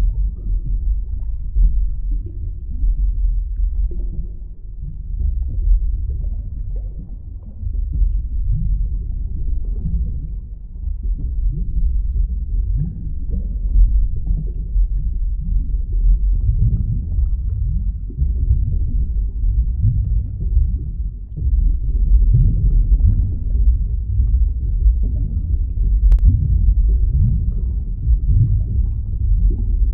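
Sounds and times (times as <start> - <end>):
deep underwater rumble: 0.0 - 29.9
rising gurgles: 0.0 - 29.9.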